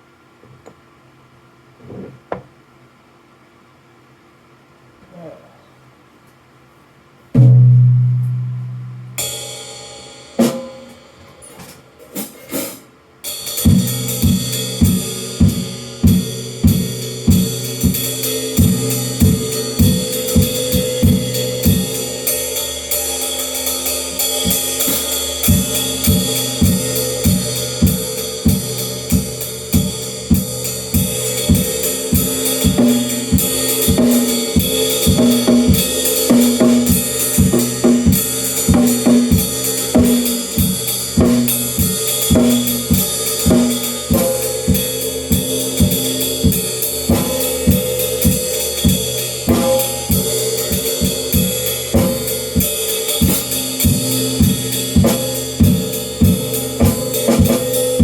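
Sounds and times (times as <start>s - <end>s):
cymbals and hi-hat: 7.4s - 58.0s
drum kit playing: 7.4s - 58.0s.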